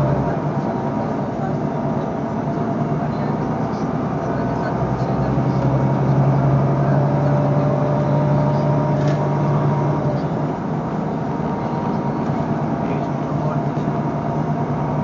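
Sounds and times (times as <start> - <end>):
road noise: 0.0 - 15.0
vehicle engine: 0.0 - 15.0.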